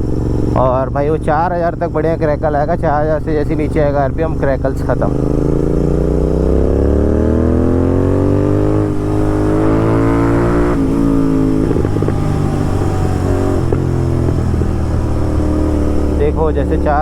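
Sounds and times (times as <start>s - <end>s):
exhaust crackling and popping: 0.0s - 17.0s
motorcycle engine accelerating: 0.0s - 17.0s.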